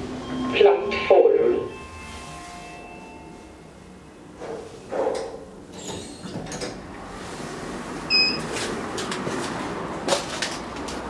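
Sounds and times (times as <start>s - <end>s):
steady outside noise: 0.0s - 11.0s.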